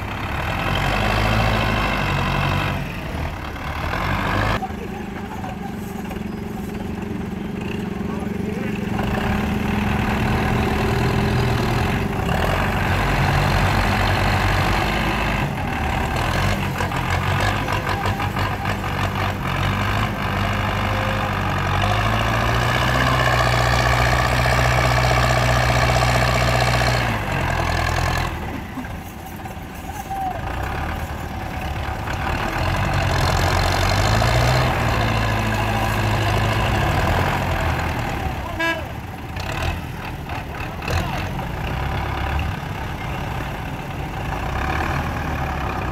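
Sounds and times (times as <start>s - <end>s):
diesel tractor engines under load: 0.0s - 45.9s.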